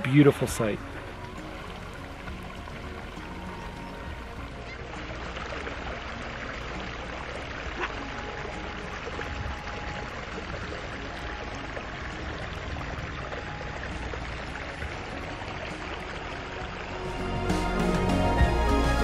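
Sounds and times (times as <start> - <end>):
stream trickling over gravel: 0.0 - 19.0.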